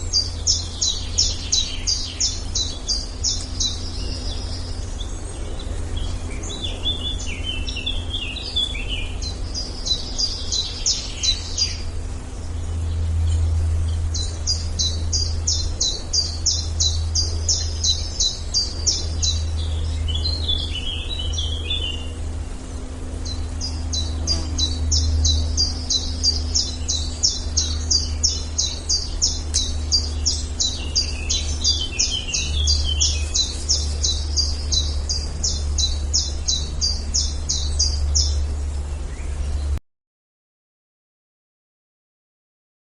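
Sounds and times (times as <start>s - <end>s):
birds twittering: 0.0s - 39.8s
steady low rumble: 0.0s - 39.8s.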